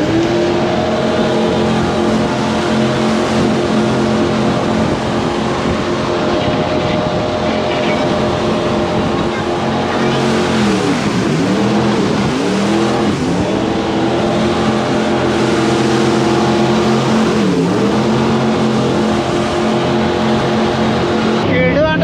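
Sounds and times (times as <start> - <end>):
boat engine running hard: 0.0 - 22.0
steady rushing noise: 0.0 - 22.0.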